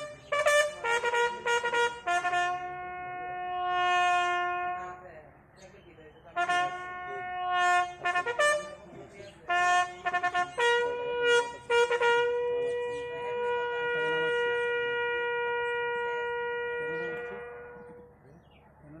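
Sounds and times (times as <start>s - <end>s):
bugle call: 0.0s - 5.0s, 6.3s - 18.2s.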